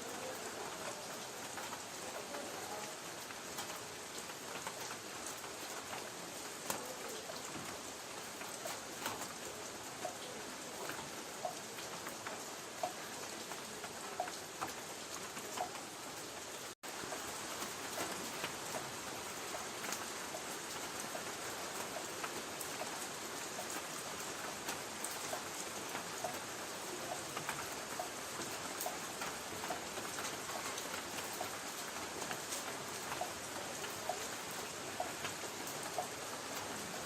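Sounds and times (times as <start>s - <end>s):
light rain on a tin roof: 0.0s - 37.0s
raindrops pinging on metal: 0.0s - 37.0s.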